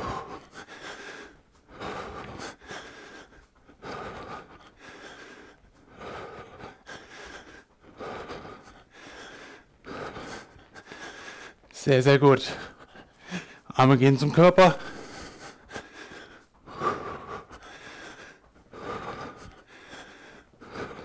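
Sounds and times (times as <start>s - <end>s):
man breathing hard: 0.0s - 21.0s.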